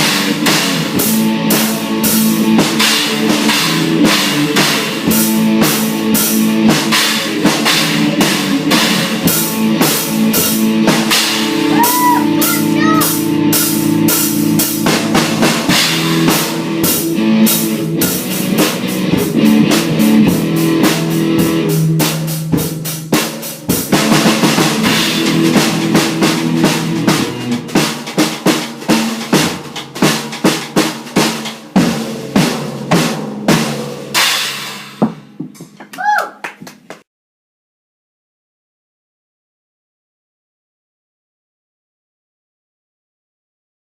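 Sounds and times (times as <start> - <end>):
rock guitar chords: 0.0 - 35.5
drum kit playing: 0.0 - 36.0.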